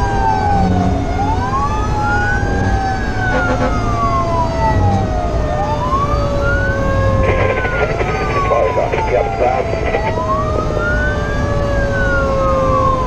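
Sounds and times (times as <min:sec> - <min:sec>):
fire engine siren wailing: 0:00.0 - 0:13.0
lower siren tone sliding down: 0:00.0 - 0:13.0.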